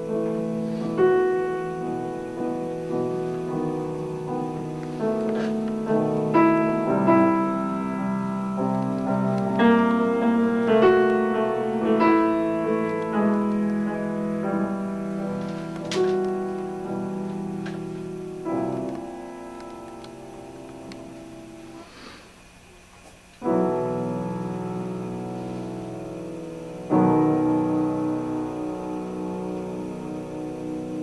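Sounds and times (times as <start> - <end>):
slow piano melody: 0.0 - 31.0.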